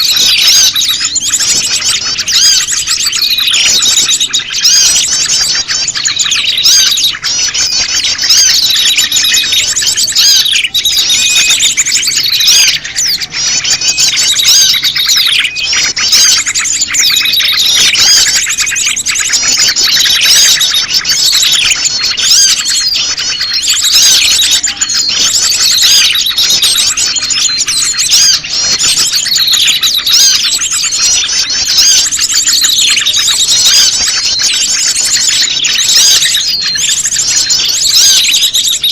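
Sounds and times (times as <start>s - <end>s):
songbird chorus chirping: 0.0s - 38.9s.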